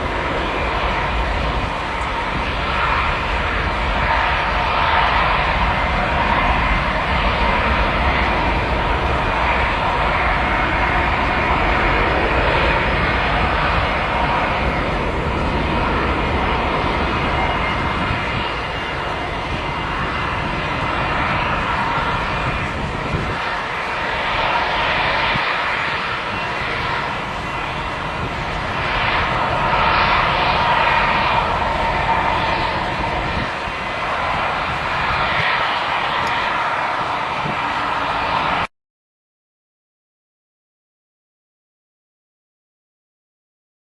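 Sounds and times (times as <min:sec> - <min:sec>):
jet engines running: 0:00.0 - 0:38.7.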